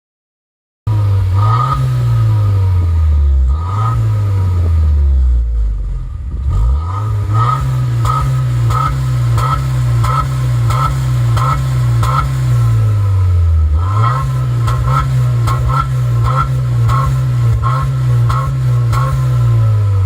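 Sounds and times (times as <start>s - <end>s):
car engine revving: 0.9s - 20.0s.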